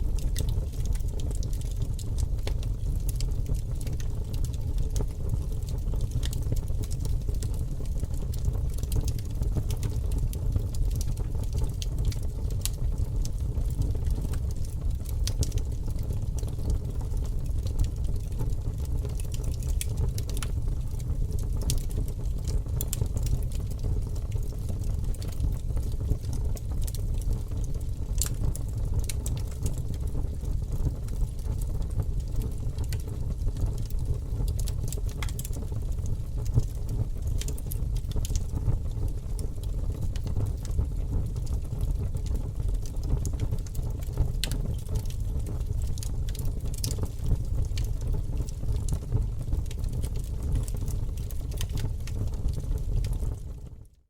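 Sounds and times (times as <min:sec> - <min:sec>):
fire burning with low rumble: 0:00.0 - 0:54.0
fire crackling and popping: 0:00.0 - 0:54.0.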